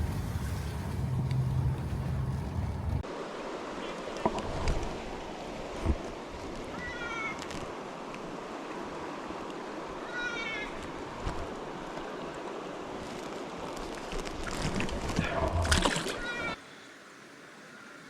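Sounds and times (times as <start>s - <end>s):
flowing water: 0.0s - 18.0s.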